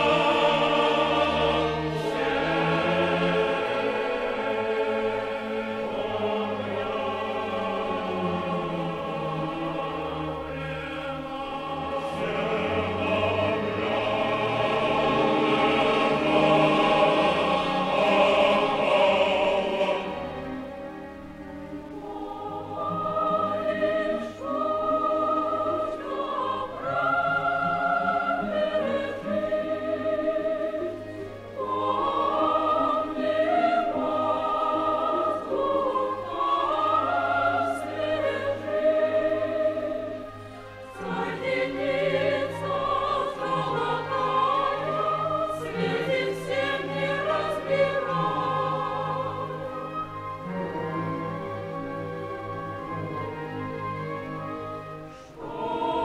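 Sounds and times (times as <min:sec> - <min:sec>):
choir singing: 0:00.0 - 0:56.0
orchestra playing: 0:00.0 - 0:56.0.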